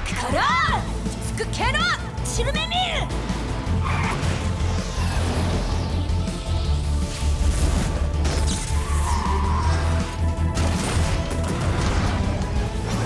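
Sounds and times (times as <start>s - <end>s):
cartoon battle music: 0.0s - 13.0s.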